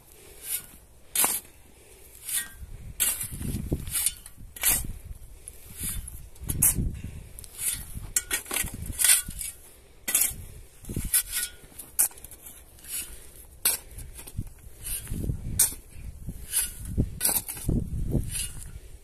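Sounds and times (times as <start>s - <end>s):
shovel grating on soil: 0.0s - 19.0s.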